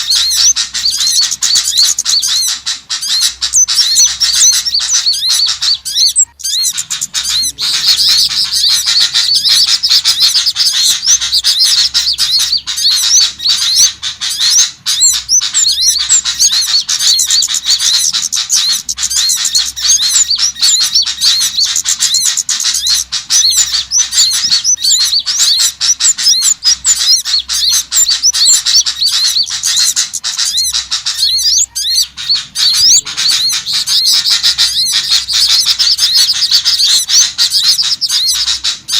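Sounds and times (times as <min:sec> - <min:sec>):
songbirds chirping chorus: 0:00.0 - 0:38.9.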